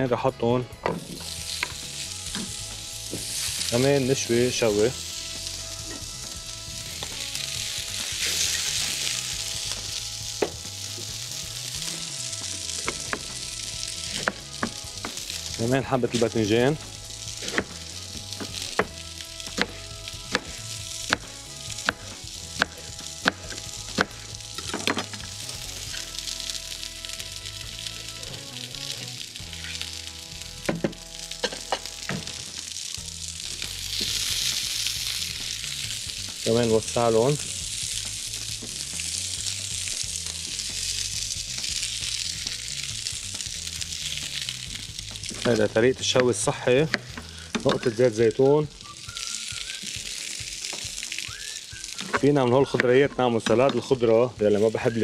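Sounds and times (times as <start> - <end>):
vegetables sizzling in pan: 1.0 - 53.0.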